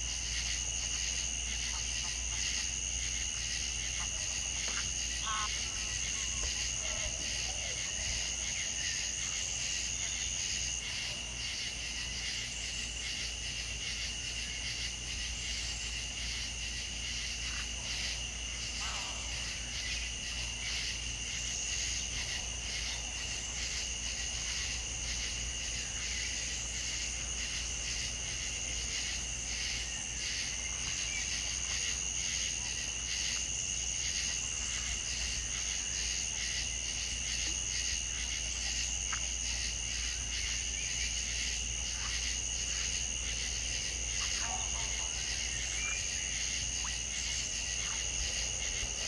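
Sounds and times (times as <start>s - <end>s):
crickets trilling: 0.0s - 49.0s.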